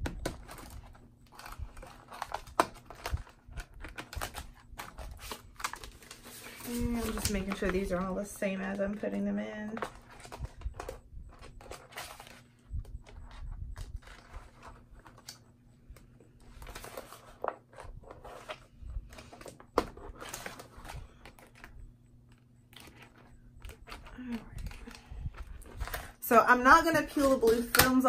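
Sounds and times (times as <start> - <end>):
plastic sheets rustling and crinkling: 0.2 - 28.0.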